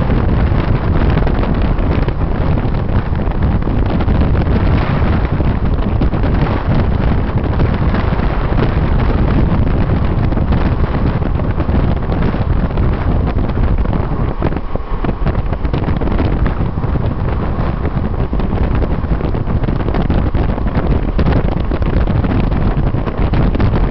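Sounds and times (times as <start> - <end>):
car road rumble: 0.0 - 23.9
wind rushing over microphone: 0.0 - 23.9.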